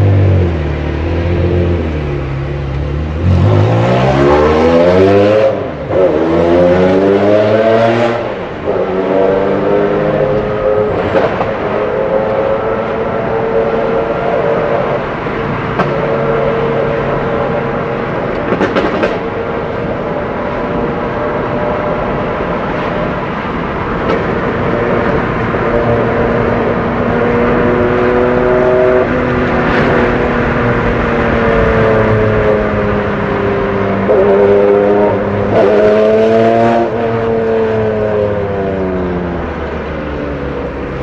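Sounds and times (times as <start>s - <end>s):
race car engine revving: 0.0s - 19.3s, 19.9s - 41.0s.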